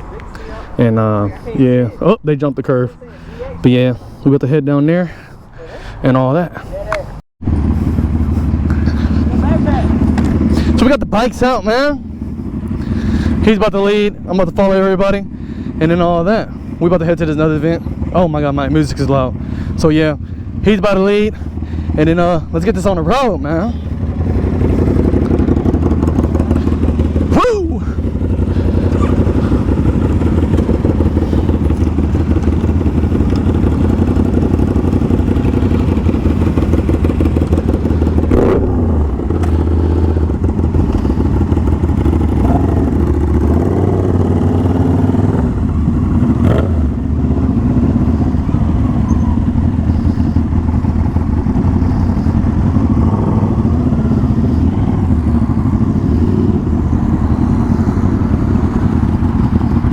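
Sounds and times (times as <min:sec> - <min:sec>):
motorcycle engines rumbling: 0:00.0 - 0:59.9.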